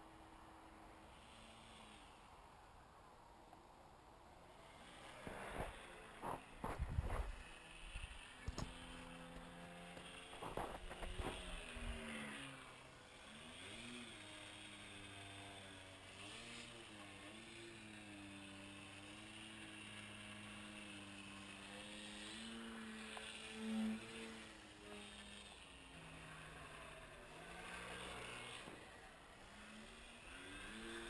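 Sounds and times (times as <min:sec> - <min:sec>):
model airplane engine drone: 0:00.0 - 0:31.0.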